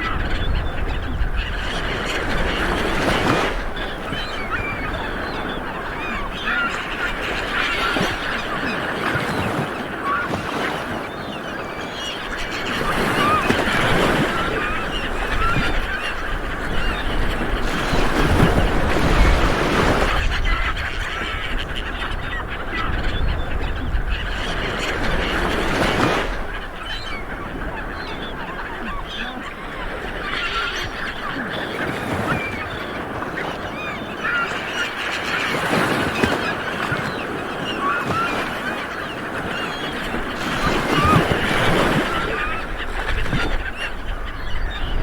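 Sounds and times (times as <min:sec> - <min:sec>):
birds calling: 0:00.0 - 0:45.0
waves breaking on a beach: 0:00.0 - 0:45.0.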